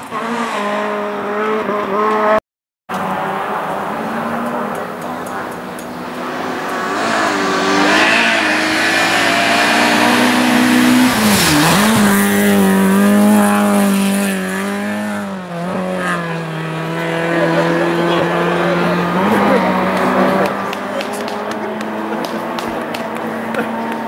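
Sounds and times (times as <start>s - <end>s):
rally car engine revving high: 0.0s - 24.0s.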